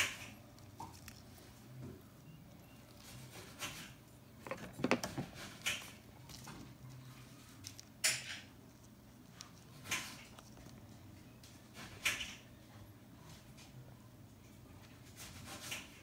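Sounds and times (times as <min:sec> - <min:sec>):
faint low hum: 0:00.0 - 0:15.6.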